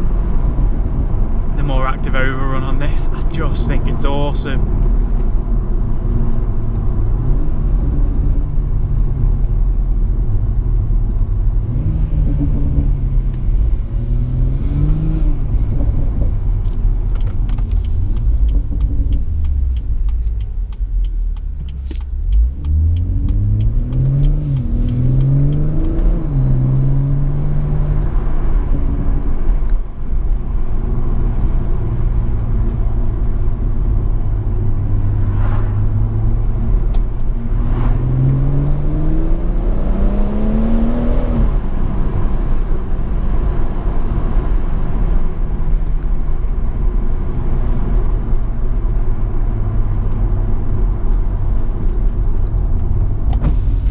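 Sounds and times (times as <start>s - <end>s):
car engine accelerating through gears: 0.0s - 53.9s
low road rumble: 0.0s - 53.9s.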